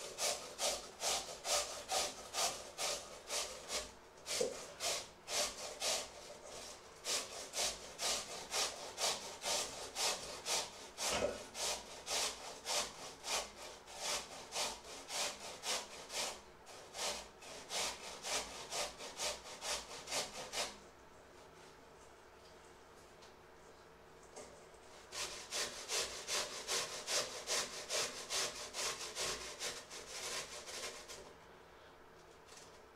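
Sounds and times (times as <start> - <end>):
metal grater rasping food: 0.0 - 20.8, 24.9 - 31.3.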